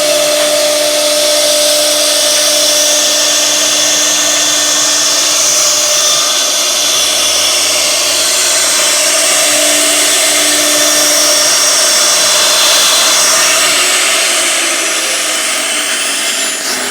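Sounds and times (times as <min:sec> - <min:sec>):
router spindle carving wood: 0:00.0 - 0:16.9.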